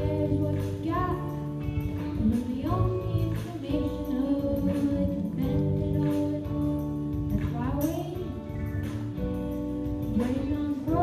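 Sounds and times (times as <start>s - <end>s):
boy singing into microphone: 0.0s - 8.7s, 10.0s - 11.0s
backing track with steady beat: 0.0s - 11.0s.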